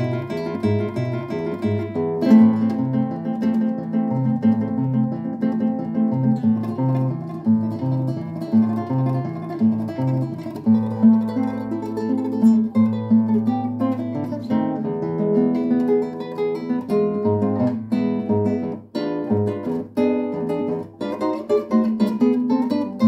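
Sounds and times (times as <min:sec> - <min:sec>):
fingerstyle classical guitar: 0:00.0 - 0:23.0.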